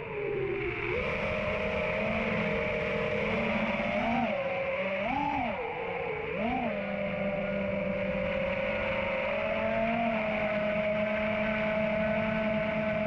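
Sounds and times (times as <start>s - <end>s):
quadcopter motors whining: 1.0s - 13.0s.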